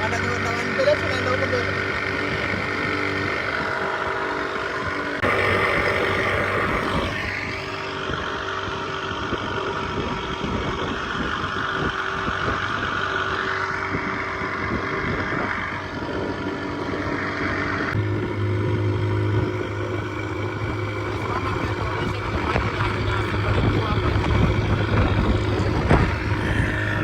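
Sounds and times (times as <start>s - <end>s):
boat motor running: 0.0s - 27.0s.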